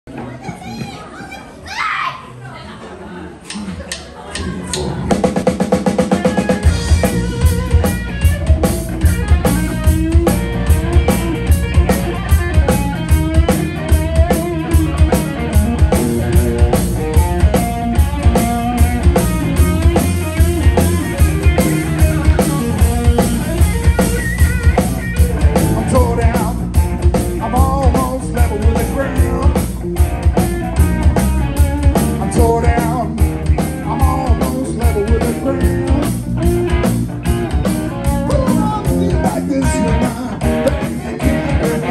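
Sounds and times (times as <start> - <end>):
drum kit steady beat: 3.5 - 41.9
bass guitar: 3.8 - 41.9
electric guitar lines: 5.9 - 41.9.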